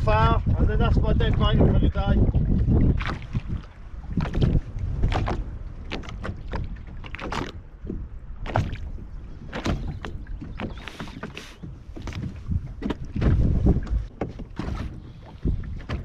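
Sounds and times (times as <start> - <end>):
water lapping against boat hull: 0.0 - 16.0
wind rumbling on microphone: 0.0 - 16.0.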